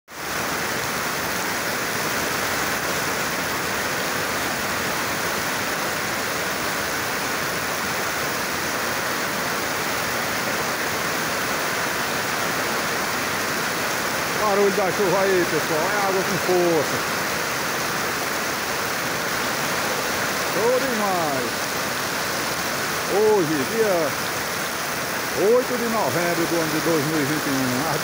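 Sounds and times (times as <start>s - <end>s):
heavy rain pouring: 0.1s - 28.0s.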